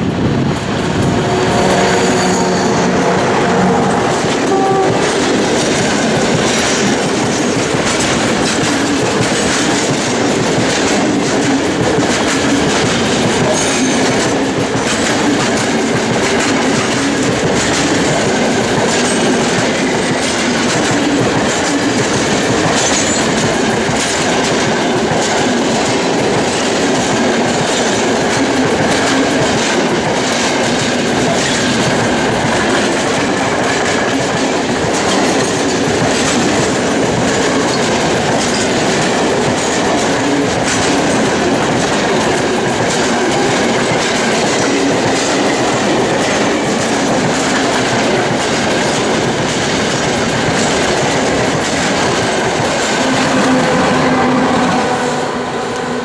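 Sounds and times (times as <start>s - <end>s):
electric locomotive hum: 0.0s - 56.0s
train wheels clattering on rails: 0.0s - 56.0s.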